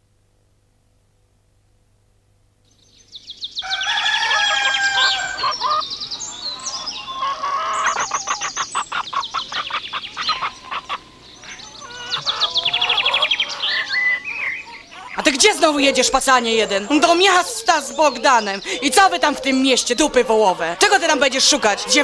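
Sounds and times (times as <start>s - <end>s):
bird calls and squawks: 2.8s - 22.0s.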